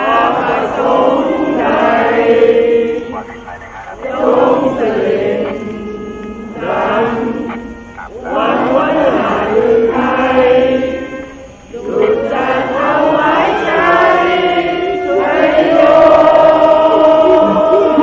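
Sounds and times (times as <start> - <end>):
voices chanting: 0.0 - 18.0.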